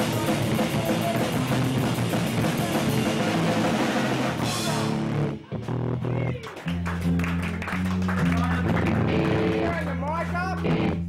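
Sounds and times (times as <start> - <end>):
bass guitar: 0.0 - 11.0
drum kit: 0.0 - 11.0
electric guitar: 0.0 - 11.0.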